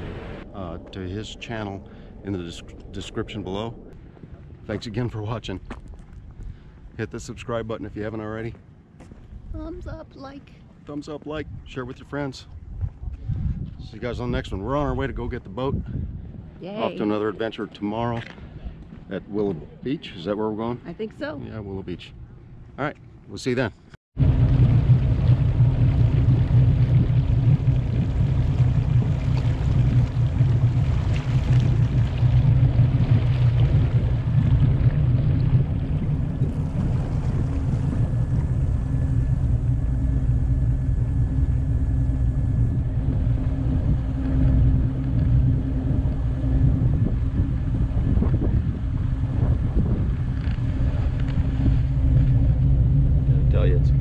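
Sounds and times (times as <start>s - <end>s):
water noise: 0.0s - 21.2s, 24.2s - 54.0s
motorboat engine rumble: 0.0s - 23.3s, 24.2s - 54.0s
wind: 0.0s - 54.0s.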